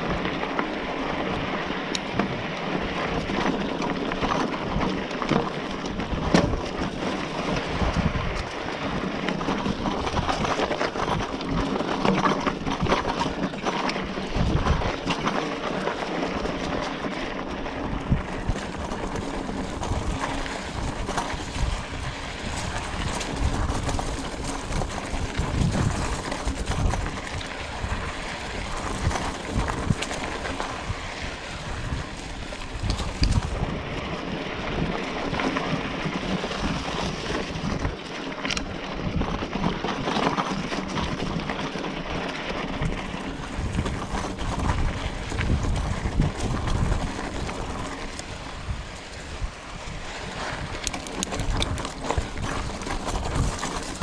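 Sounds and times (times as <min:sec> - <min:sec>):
bike knocks and rattles: 0:00.0 - 0:54.0
wind buffeting microphone: 0:00.0 - 0:54.0.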